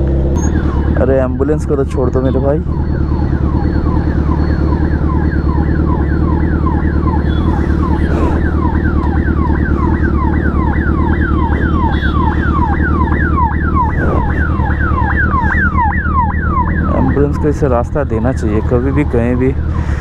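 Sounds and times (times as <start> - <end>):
ambulance siren: 0.0 - 20.0
motorcycle engine running: 0.0 - 20.0.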